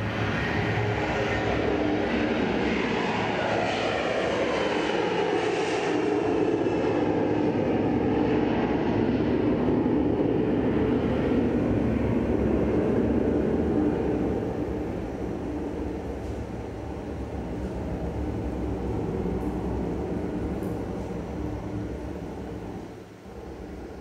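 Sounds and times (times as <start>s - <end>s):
loud engine-like drone: 0.0s - 24.0s.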